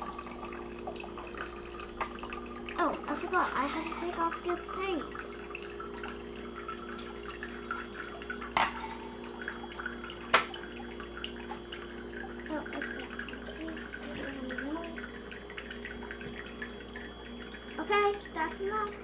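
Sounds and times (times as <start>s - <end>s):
pump humming: 0.0s - 19.0s
water stream into metal pot: 0.0s - 19.0s.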